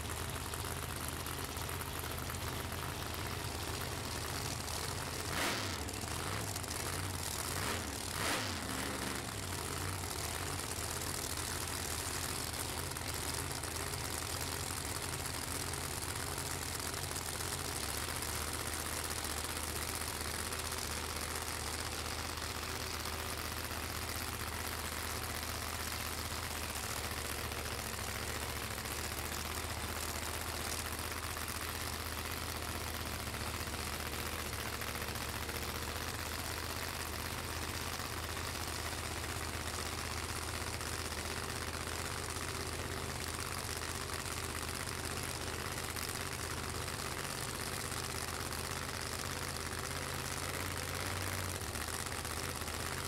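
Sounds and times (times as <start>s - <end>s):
drag racing engines idling: 0.0s - 53.0s.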